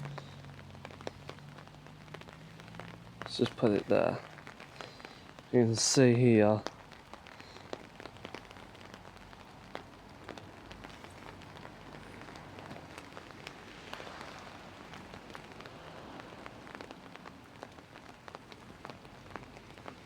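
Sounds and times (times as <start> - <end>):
raindrops ticking on surfaces: 0.0 - 20.0
steady rain: 0.0 - 20.0.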